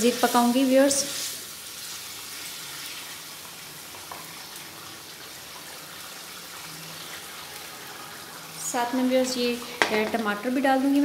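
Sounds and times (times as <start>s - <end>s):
gravy bubbling and sizzling: 0.0s - 11.0s.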